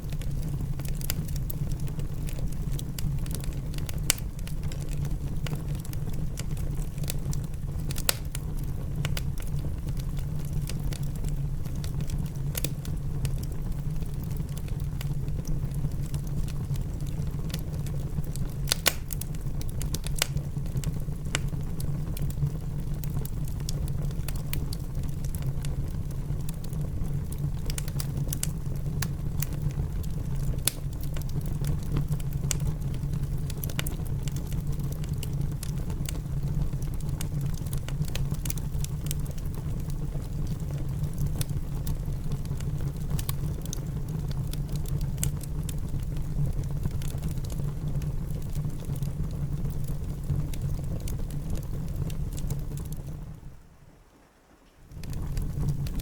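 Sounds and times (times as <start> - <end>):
low rumble of rain: 0.0 - 56.0
wood fire crackling: 0.0 - 56.0.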